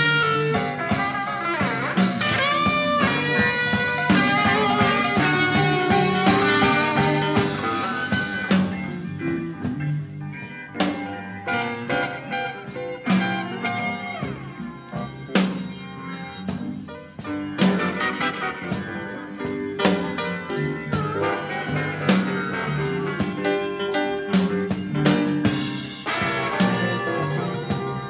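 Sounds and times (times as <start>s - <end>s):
bass guitar: 0.0s - 28.0s
drums: 0.0s - 28.0s
lead guitar bending notes: 0.0s - 28.0s.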